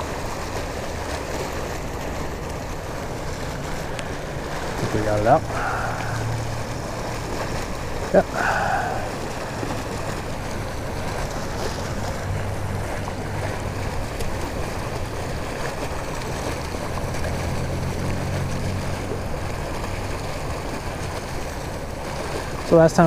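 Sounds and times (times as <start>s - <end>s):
water rushing from pipe: 0.0s - 23.0s.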